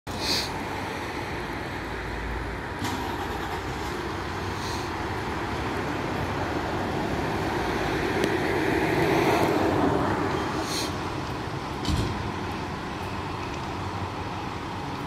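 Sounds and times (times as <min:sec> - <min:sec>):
vehicle engine rumbling: 0:00.1 - 0:15.0.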